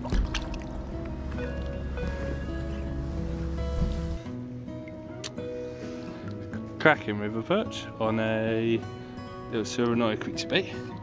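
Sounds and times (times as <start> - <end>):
background music of held notes: 0.0 - 11.0.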